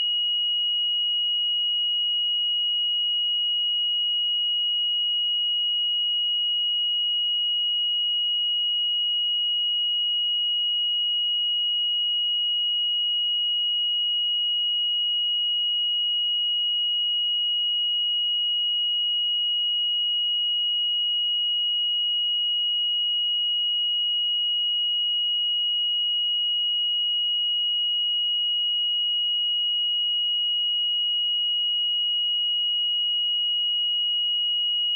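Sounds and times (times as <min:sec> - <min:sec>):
high-pitched sine-wave test tone: 0:00.0 - 0:34.9.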